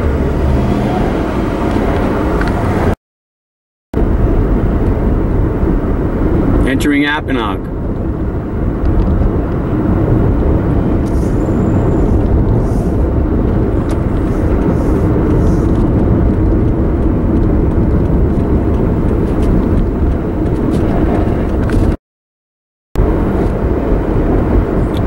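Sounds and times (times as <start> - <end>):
car road noise inside cabin: 0.0 - 3.0, 4.0 - 22.0, 23.0 - 25.0.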